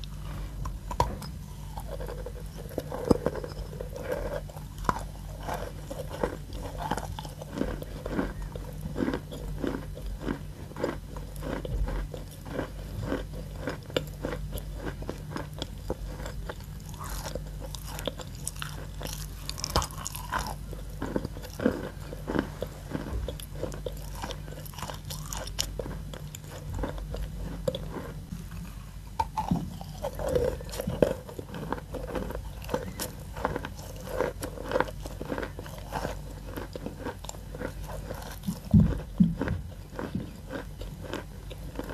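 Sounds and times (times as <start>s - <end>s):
chalk being chewed: 0.0s - 41.9s.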